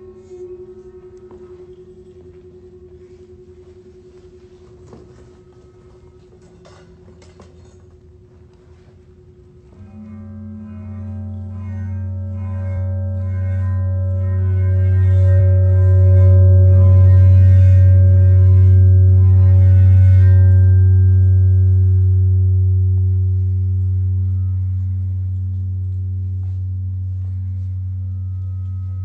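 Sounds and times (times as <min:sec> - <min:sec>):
metal plate deep ringing hum: 0:00.0 - 0:29.0.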